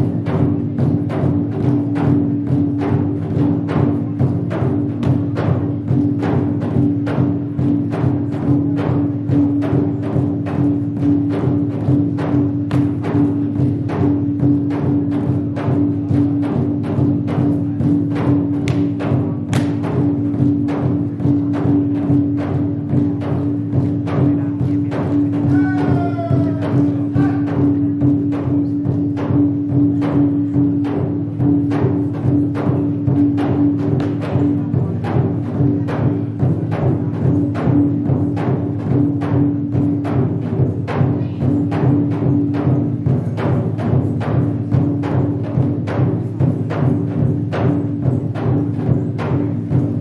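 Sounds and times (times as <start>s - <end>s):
sharp percussion strikes: 0.0s - 50.0s.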